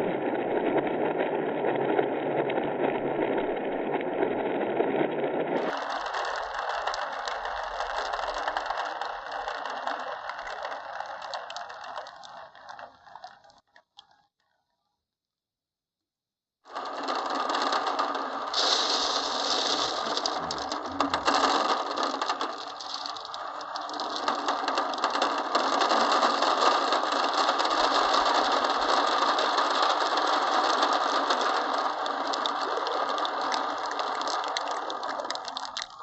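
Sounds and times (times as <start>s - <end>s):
glass marbles rattling down wooden run: 0.8s - 14.2s, 16.7s - 36.0s.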